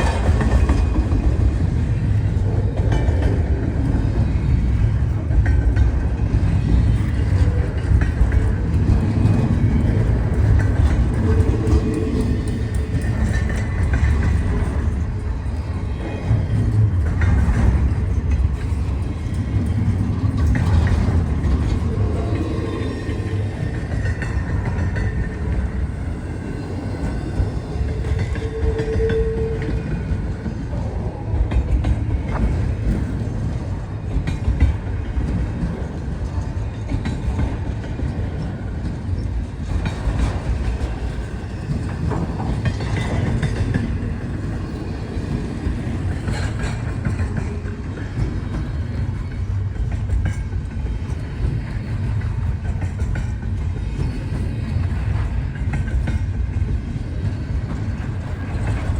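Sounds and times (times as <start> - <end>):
freight cars rumbling: 0.0 - 58.9.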